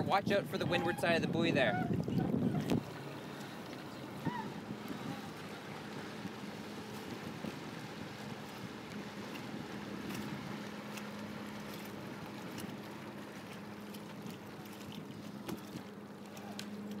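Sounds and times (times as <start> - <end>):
water washing: 0.0 - 17.0
wind: 0.0 - 17.0
small splashes: 1.9 - 17.0.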